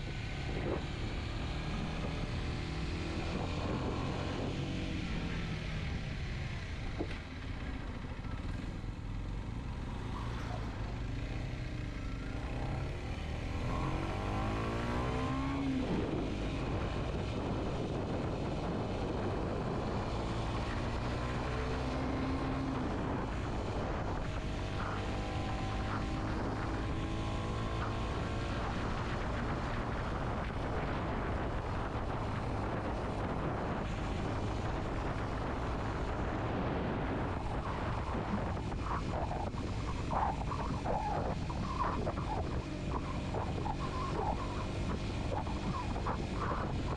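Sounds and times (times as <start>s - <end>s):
motorcycle engine revving: 0.0s - 46.9s
wind and road rush: 0.0s - 46.9s.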